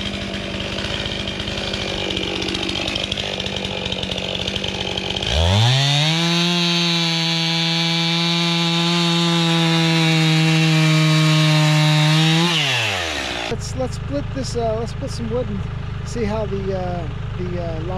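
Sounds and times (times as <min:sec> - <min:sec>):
chainsaw revving: 0:00.0 - 0:17.9.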